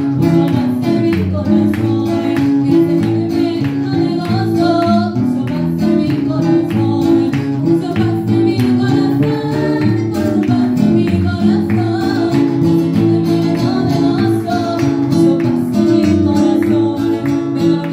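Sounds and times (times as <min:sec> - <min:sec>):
guitar accompaniment: 0:00.0 - 0:17.9
woman singing: 0:00.0 - 0:17.9.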